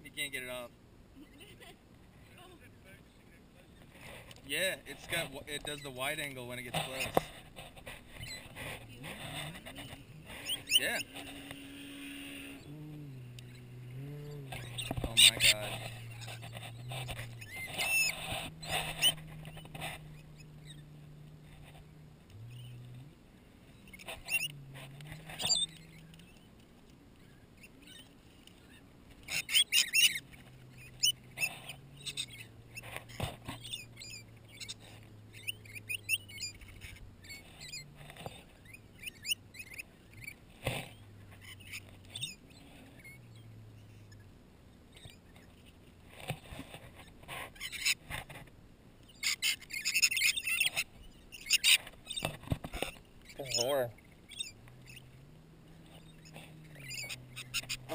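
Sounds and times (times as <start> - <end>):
beaks and claws scraping a plate: 3.6 - 57.9
parrots chattering and screeching: 4.9 - 23.0, 23.7 - 26.5, 27.2 - 44.2, 46.6 - 48.4, 49.0 - 57.9.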